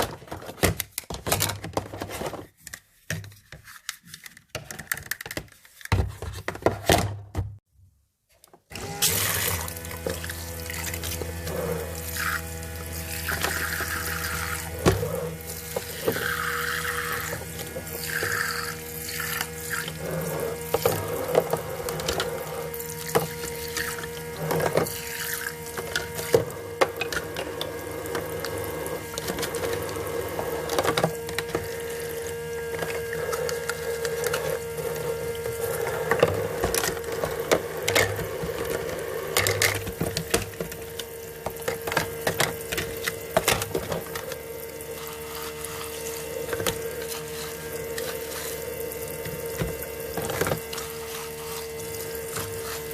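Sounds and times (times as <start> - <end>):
small water pump whining: 8.5 - 52.9.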